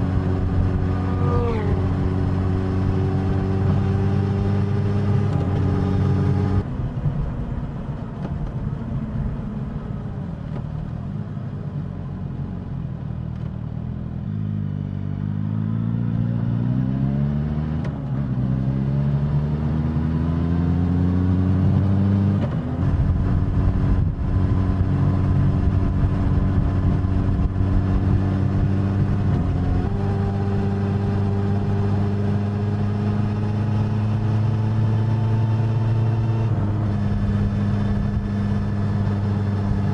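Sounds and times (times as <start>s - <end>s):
motorcycle engine accelerating: 0.0s - 11.0s, 14.0s - 39.9s.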